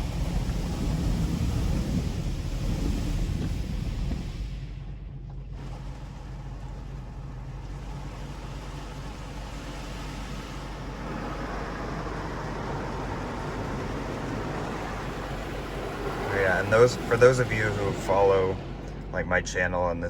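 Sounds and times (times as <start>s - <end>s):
car wash spray hissing: 0.0s - 5.0s, 8.1s - 20.0s
low steady hum: 0.0s - 20.0s.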